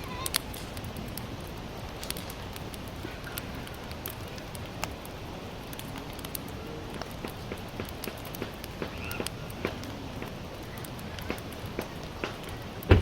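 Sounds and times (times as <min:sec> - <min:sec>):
campfire crackling: 0:00.0 - 0:13.0
sharp fire pops: 0:00.0 - 0:13.0.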